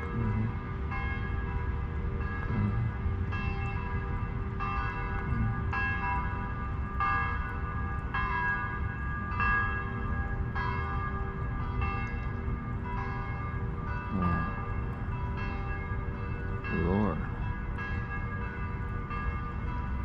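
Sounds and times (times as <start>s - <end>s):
bells ringing: 0.0s - 20.0s
low steady rumble: 0.0s - 20.0s.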